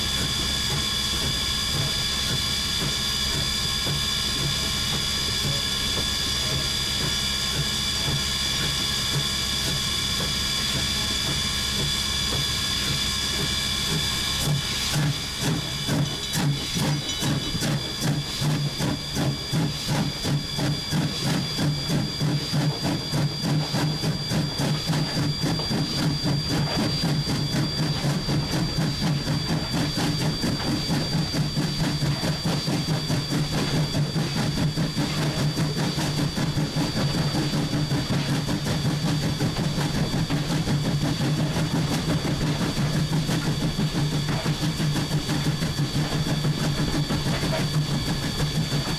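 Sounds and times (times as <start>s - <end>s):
steam hiss with whistling tones: 0.0s - 48.9s
steam locomotive exhaust chuffing: 0.0s - 48.9s.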